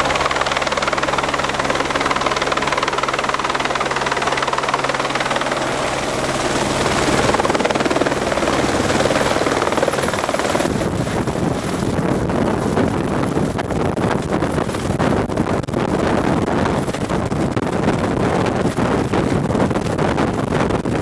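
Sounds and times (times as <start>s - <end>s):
helicopter rotor and turbine: 0.0s - 21.0s.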